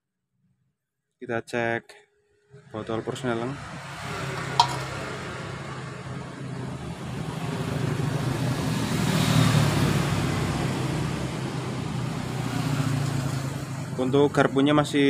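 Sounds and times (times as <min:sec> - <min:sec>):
road traffic: 0:02.5 - 0:15.0
vehicle passing: 0:02.6 - 0:14.7.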